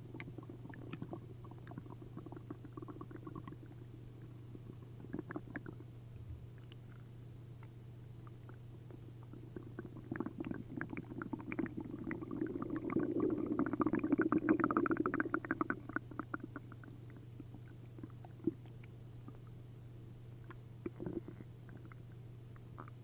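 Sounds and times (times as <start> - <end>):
stomach gurgling: 0.0 - 5.9, 8.2 - 19.5, 20.4 - 23.0.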